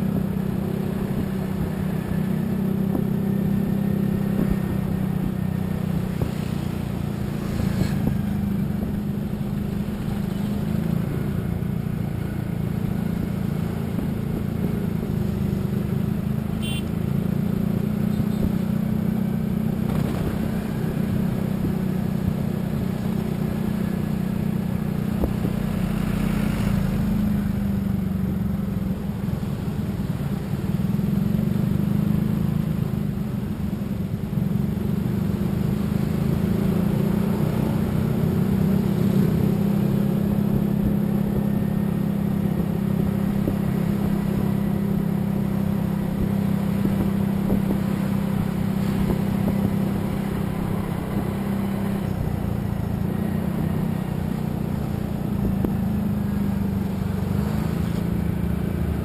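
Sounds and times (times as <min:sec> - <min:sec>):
road and wind noise: 0:00.0 - 0:59.0
vehicle engine drone: 0:00.0 - 0:59.0.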